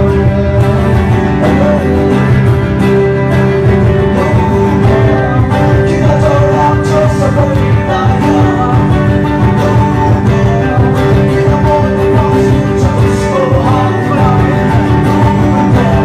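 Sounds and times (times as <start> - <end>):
guitar melody: 0.0 - 16.0
low rhythm: 0.0 - 16.0
person singing: 0.0 - 16.0.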